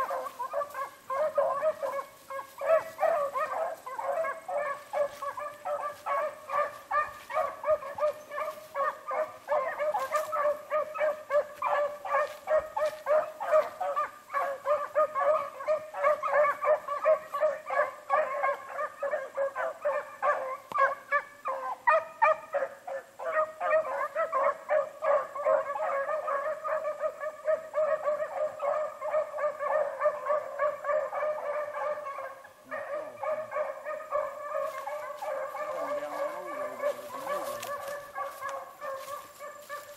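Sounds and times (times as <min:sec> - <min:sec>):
hounds baying: 0:00.0 - 0:39.9.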